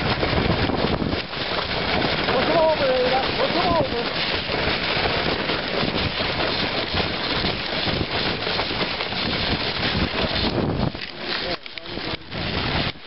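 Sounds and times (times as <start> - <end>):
sled runners sliding over snow: 0.0 - 13.0
wind buffeting microphone: 0.0 - 13.0.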